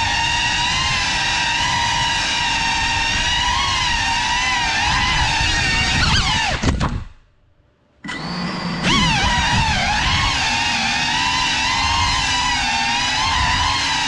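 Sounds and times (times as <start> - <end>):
drone motors whining: 0.0 - 7.0, 8.0 - 14.0.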